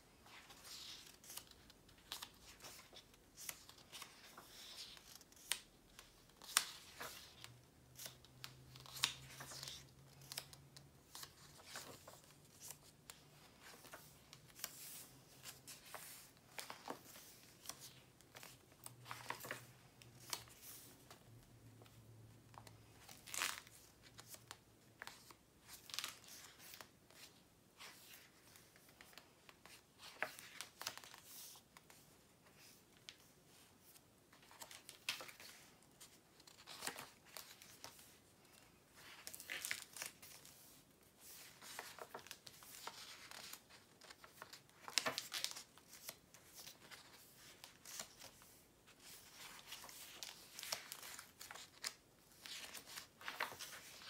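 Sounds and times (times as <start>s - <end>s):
paper pages being turned: 0.2s - 21.2s, 21.8s - 54.0s.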